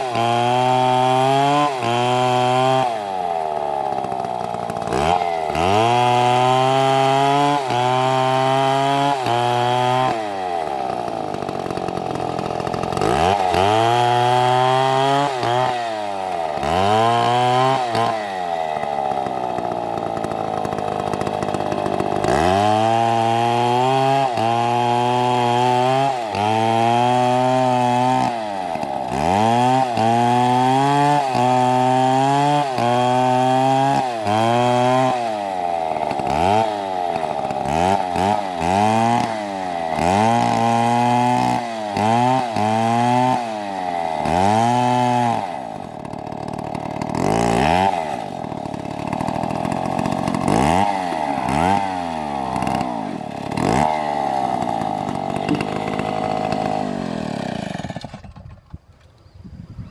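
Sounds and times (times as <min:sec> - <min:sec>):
chainsaw engine revving: 0:00.0 - 0:58.7.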